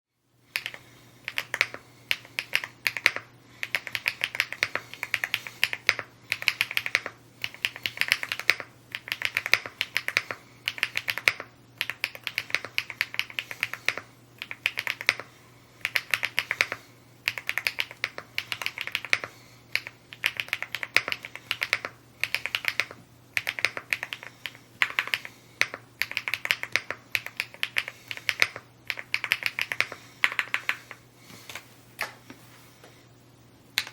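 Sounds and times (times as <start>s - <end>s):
mechanical keyboard typing: 0.6s - 30.9s.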